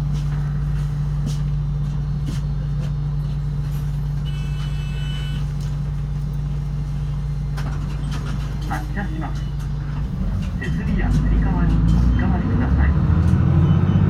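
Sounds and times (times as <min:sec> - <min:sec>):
bus engine and road drone: 0:00.0 - 0:14.0.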